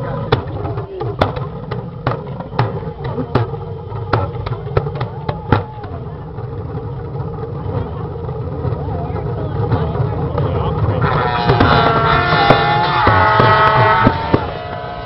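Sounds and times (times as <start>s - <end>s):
people talking: 0.0s - 14.8s
engine idling hum: 0.0s - 15.0s.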